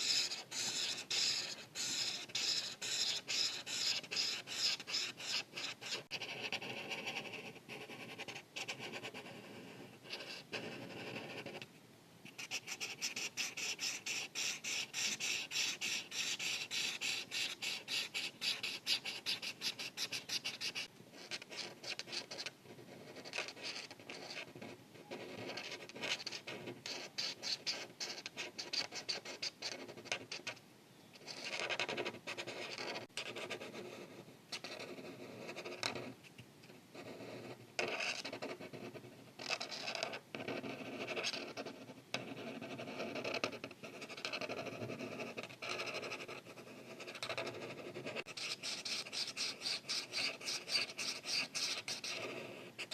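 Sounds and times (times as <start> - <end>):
marker scratching on paper: 0.0 - 11.6, 12.3 - 30.6, 31.2 - 36.1, 37.0 - 52.9.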